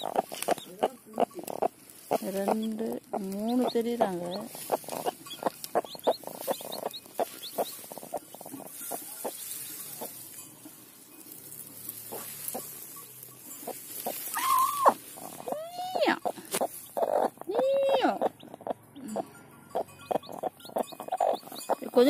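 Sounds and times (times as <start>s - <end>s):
chicks peeping: 0.0s - 10.3s, 12.0s - 22.0s
hen calling: 0.0s - 10.3s, 12.0s - 22.0s
straw rustling: 0.0s - 22.0s.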